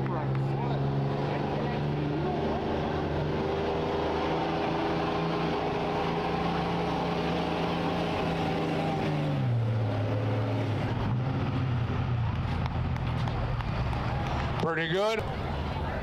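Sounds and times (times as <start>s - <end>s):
diesel truck engine revving: 0.0s - 16.0s.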